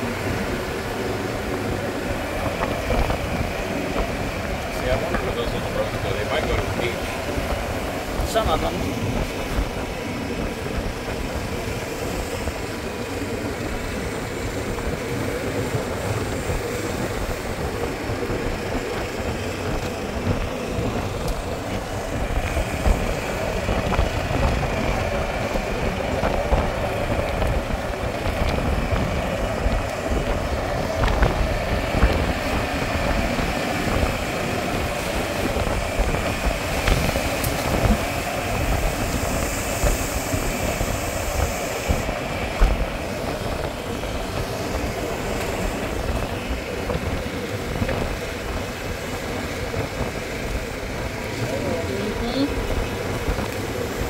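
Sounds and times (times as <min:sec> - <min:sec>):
golf cart driving on road: 0:00.0 - 0:54.0
wind gusting on microphone: 0:00.0 - 0:54.0.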